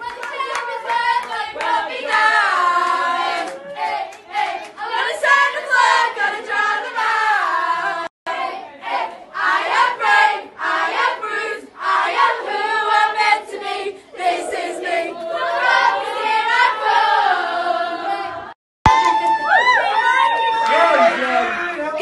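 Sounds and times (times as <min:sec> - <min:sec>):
children singing together: 0:00.1 - 0:18.6.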